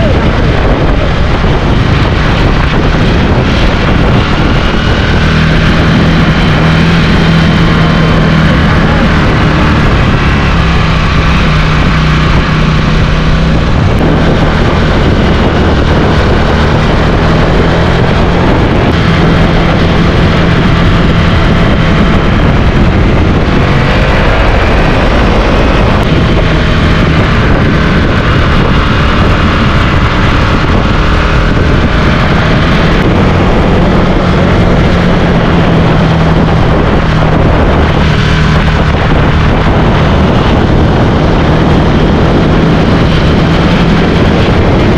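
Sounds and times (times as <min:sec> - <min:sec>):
motorcycle engine running: 0:00.0 - 0:44.9
wind on microphone: 0:00.0 - 0:44.9.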